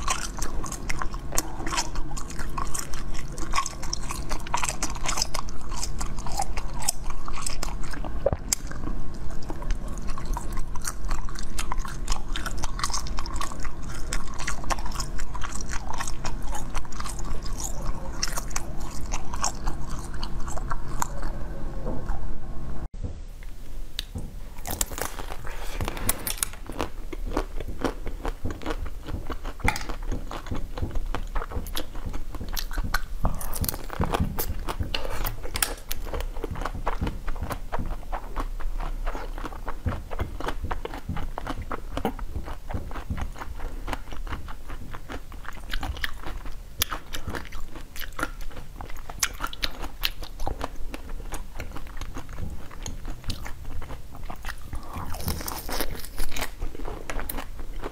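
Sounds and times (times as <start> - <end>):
chewing: 0.0 - 22.2, 24.0 - 57.9.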